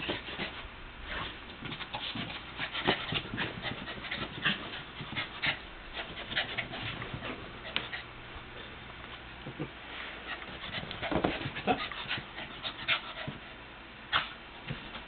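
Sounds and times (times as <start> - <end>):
puppy making noisy sounds: 0.0 - 8.2, 9.6 - 13.5.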